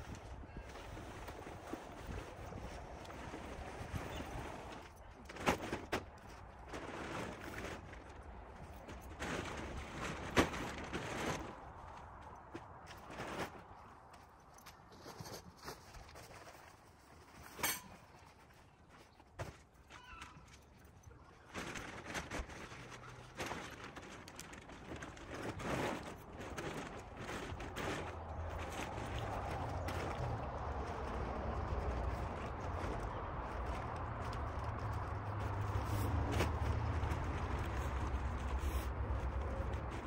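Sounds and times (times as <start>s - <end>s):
tent fabric rustling: 0.0s - 40.0s.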